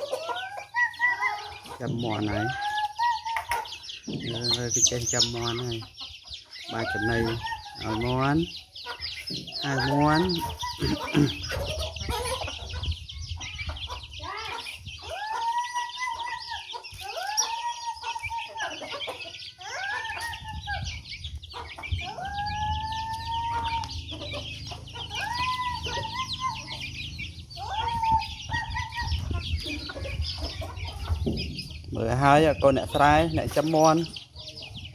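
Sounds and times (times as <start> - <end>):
chickens calling: 0.0 - 34.9
chicks peeping: 0.0 - 34.9.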